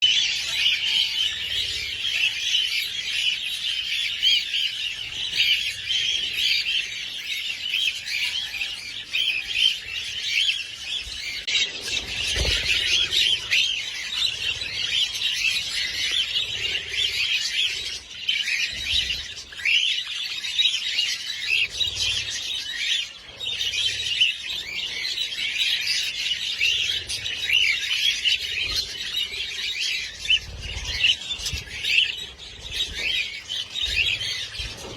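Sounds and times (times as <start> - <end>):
parrots chirping and squawking: 0.0 - 34.9.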